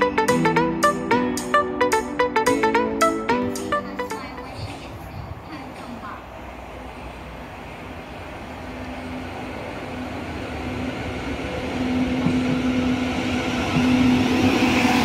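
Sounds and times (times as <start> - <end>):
electric train running on rails: 0.0 - 15.0.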